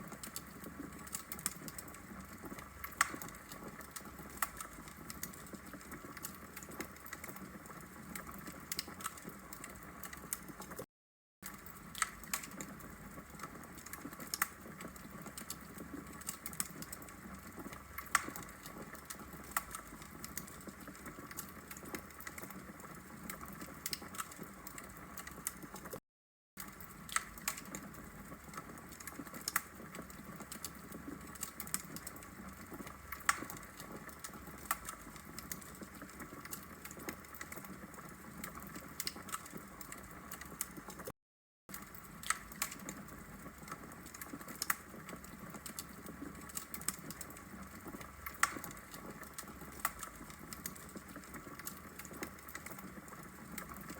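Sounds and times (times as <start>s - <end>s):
wood fire crackling: 0.0s - 10.8s, 11.4s - 26.0s, 26.6s - 41.1s, 41.7s - 53.9s.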